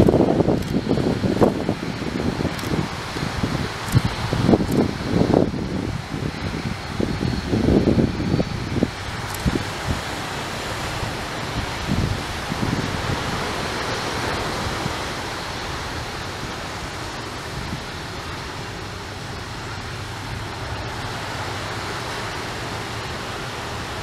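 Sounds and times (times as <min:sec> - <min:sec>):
jet engines at low power: 0:00.0 - 0:24.0
wind noise on microphone: 0:00.0 - 0:24.0.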